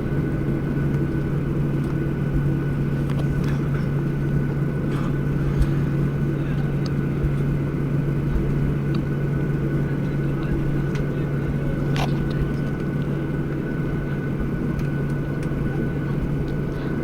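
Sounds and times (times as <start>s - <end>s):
jet cabin hum: 0.0s - 17.0s.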